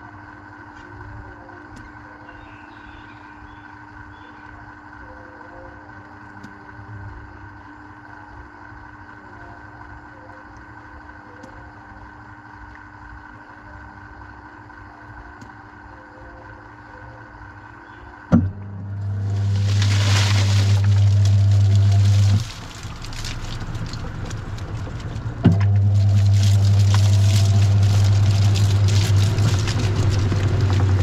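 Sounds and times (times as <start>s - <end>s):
washing machine hum: 0.0s - 31.0s.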